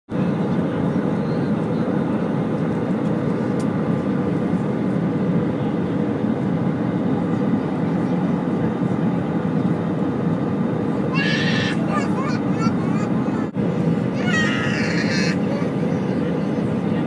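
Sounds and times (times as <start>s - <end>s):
airliner cabin roar: 0.1s - 17.0s.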